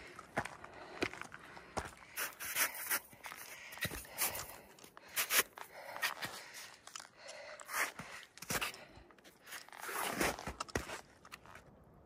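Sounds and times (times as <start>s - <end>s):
footsteps on a trail: 0.0s - 11.8s.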